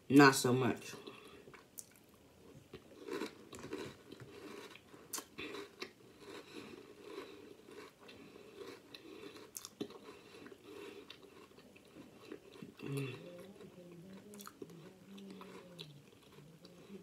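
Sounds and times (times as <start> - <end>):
person chewing crunchy cereal: 1.0 - 17.0.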